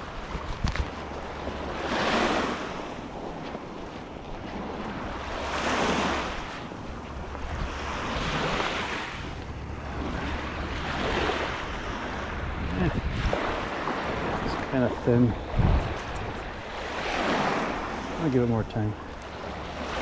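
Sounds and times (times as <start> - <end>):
waves washing onto shore: 0.0 - 20.0
wind rumbling on microphone: 0.0 - 20.0.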